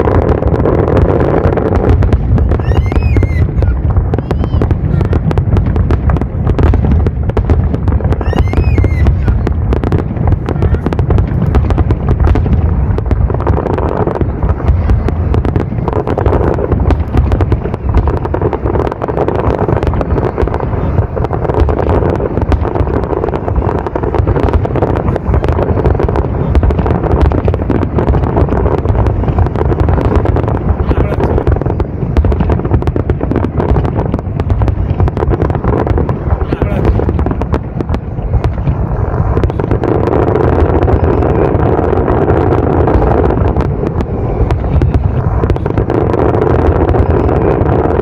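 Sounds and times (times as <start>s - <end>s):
fireworks bursting and crackling: 0.0s - 48.0s
low rumble: 0.0s - 48.0s.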